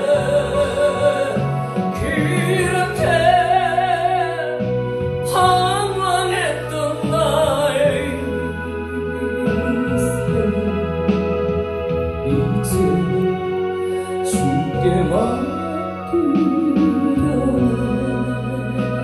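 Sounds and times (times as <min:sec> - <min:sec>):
woman singing with vibrato: 0:00.0 - 0:11.6, 0:12.2 - 0:19.0
instrumental accompaniment: 0:00.0 - 0:19.0.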